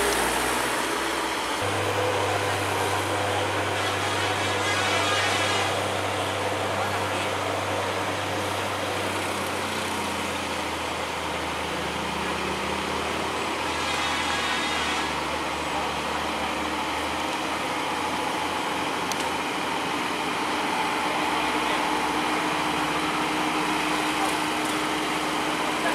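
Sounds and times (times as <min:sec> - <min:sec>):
traffic: 0:00.0 - 0:25.9
truck diesel engine running: 0:00.0 - 0:25.9.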